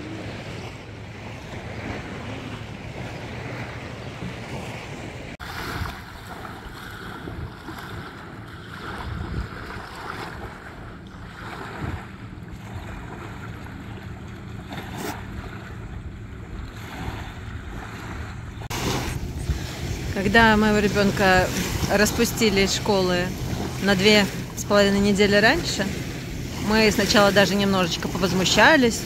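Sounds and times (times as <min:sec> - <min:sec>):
small waves lapping on shore: 0:00.0 - 0:29.0
wind buffeting microphone: 0:00.0 - 0:29.0.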